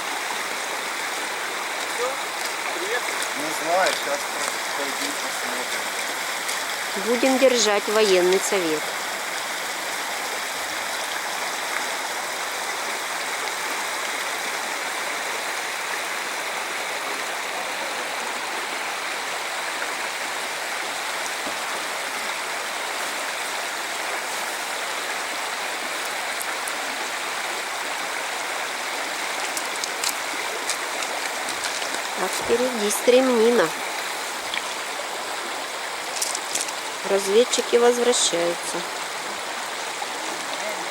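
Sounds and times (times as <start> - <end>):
river rushing over rapids: 0.0 - 40.9.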